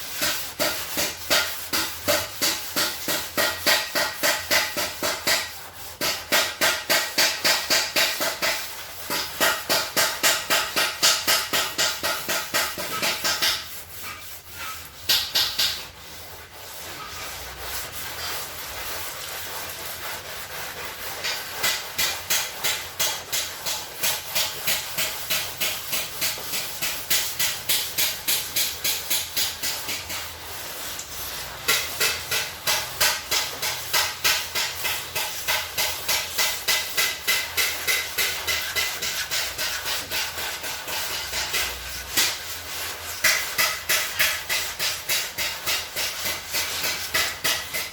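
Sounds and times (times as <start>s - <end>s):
sandpaper rubbing on metal: 0.0s - 47.9s.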